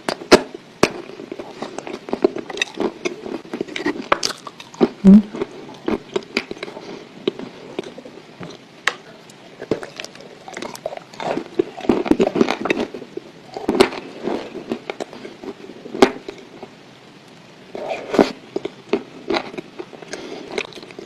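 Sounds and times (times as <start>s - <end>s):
crunching chewing of clay: 0.0s - 8.6s, 9.6s - 16.7s, 17.8s - 21.0s.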